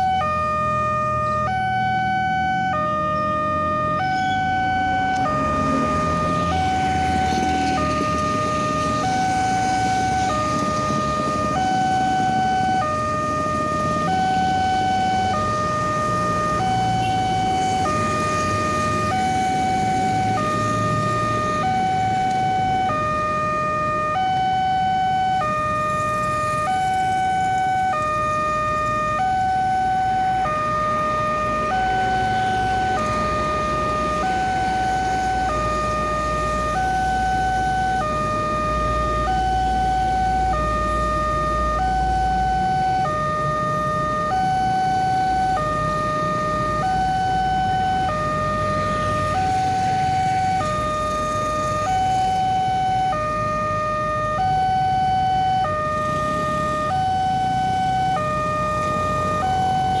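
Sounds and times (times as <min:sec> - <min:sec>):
two-tone crossing alarm: 0:00.0 - 1:00.0.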